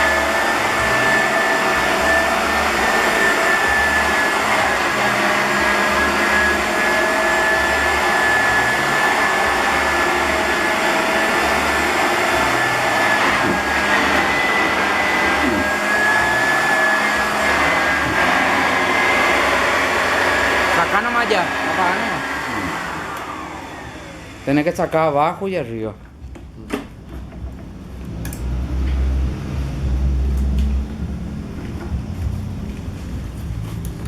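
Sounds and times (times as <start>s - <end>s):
vacuum cleaner on carpet: 0.0s - 25.5s, 26.1s - 34.0s.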